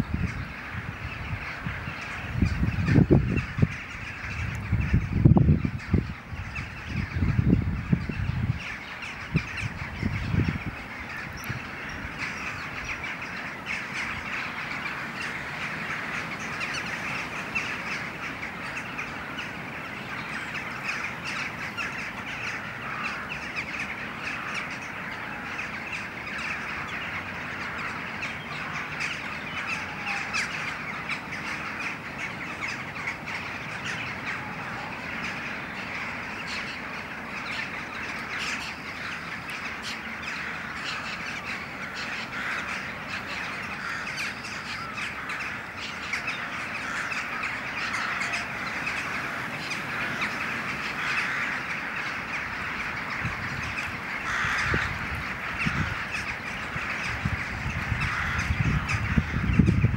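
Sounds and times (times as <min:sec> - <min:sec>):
flock of starlings chattering: 0:00.0 - 0:59.9.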